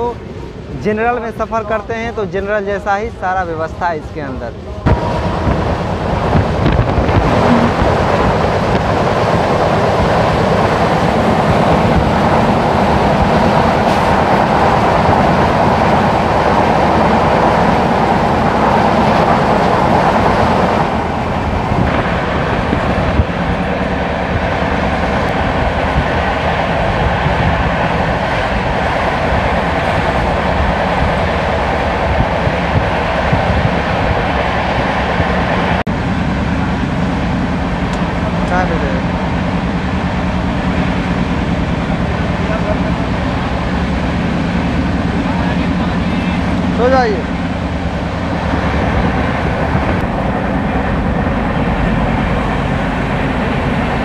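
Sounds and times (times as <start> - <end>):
passing train: 0.0 - 54.0
train wheels on rails: 4.9 - 54.0.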